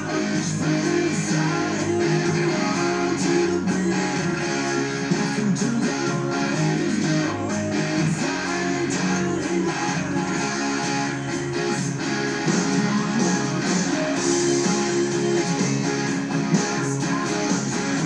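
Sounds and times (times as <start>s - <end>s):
electric guitar strumming chords: 0.0s - 18.0s.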